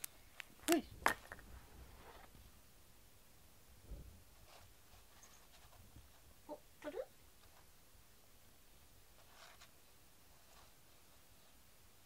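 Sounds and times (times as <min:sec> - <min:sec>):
faint soft rustle: 0:00.0 - 0:02.6, 0:03.7 - 0:12.0.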